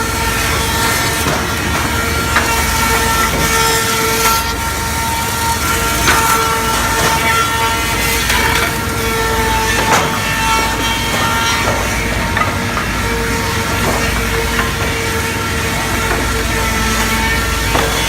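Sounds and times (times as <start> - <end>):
wood planer whine: 0.0 - 18.0.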